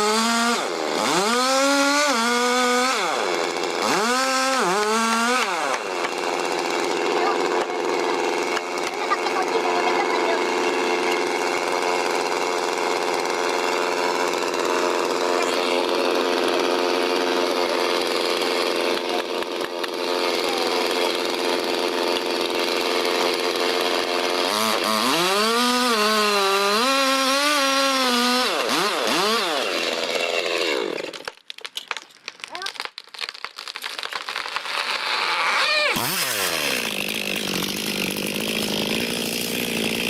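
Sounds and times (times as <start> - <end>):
chainsaw running at high revs: 0.0 - 31.4, 33.9 - 40.0.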